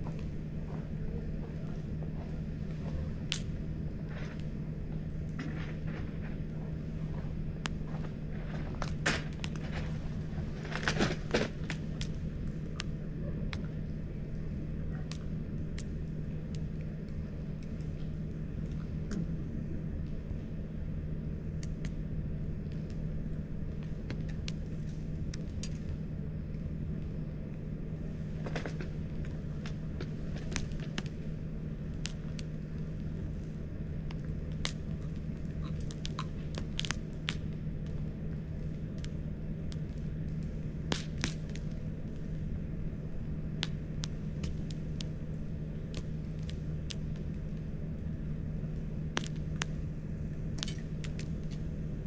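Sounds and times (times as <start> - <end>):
campfire crackling and popping: 0.0 - 52.0
low hum: 0.0 - 52.0.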